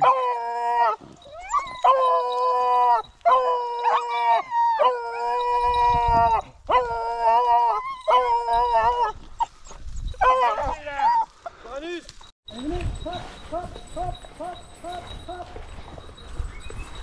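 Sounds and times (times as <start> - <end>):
hound baying: 0.0 - 11.4, 12.6 - 17.0.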